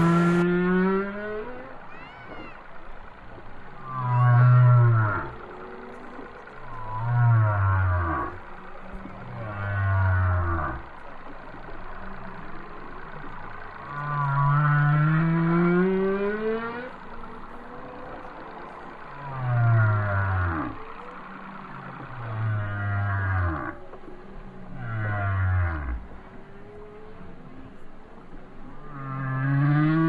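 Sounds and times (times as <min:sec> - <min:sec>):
humpback whale song: 0:00.0 - 0:30.0.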